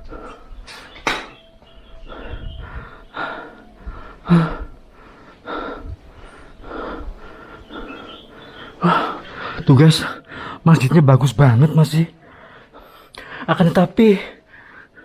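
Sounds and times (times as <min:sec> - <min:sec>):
man breathing hard: 0:00.0 - 0:01.0, 0:01.7 - 0:10.6, 0:12.2 - 0:13.6, 0:14.2 - 0:15.0.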